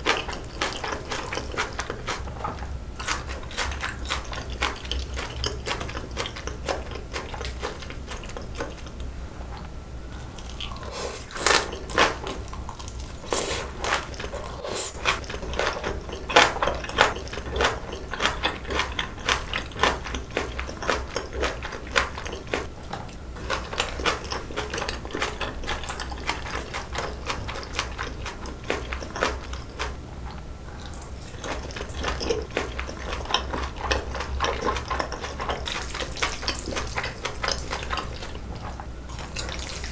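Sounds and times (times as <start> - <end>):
close-miked chewing: 0.0 - 39.9.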